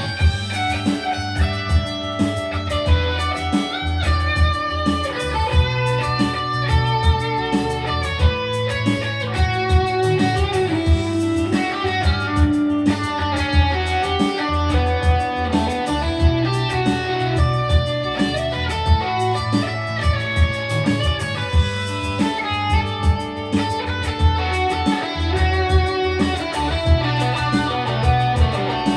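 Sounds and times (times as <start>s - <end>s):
bass line: 0.0s - 28.9s
drum beat: 0.0s - 28.9s
electric guitar quick notes: 0.0s - 28.9s.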